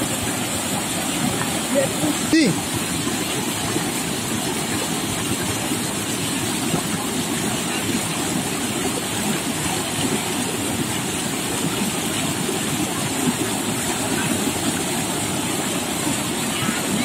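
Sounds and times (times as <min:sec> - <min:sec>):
water rushing down rock chute: 0:00.0 - 0:17.0.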